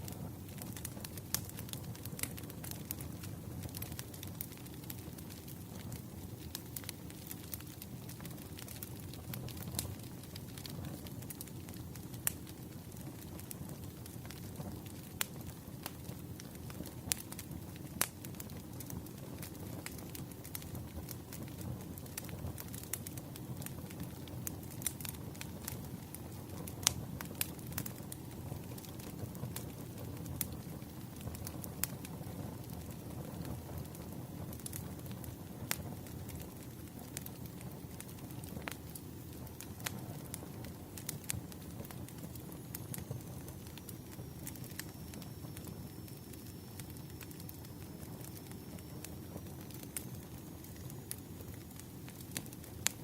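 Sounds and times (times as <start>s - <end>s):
burning logs crackling and popping: 0.0s - 53.0s
wood fire rumbling: 0.0s - 53.0s.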